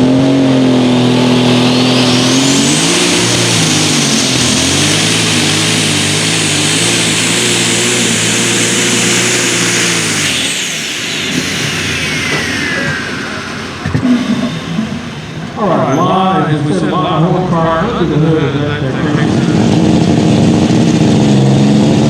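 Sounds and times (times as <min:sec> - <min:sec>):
high turbo whine: 0:00.0 - 0:22.0
tractor engine running flat out: 0:00.0 - 0:22.0.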